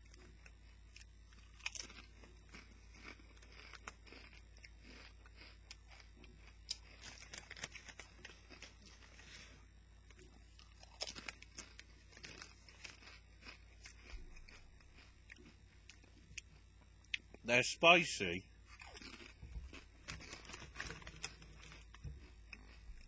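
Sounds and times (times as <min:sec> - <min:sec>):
crunching chewing of chips: 0:00.0 - 0:23.0
steady low hum: 0:00.0 - 0:23.0.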